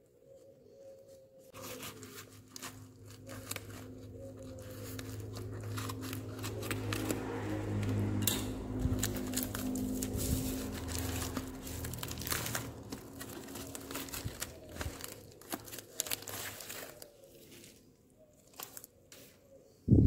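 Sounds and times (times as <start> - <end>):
plastic mailer crinkling and tearing: 1.5 - 19.3.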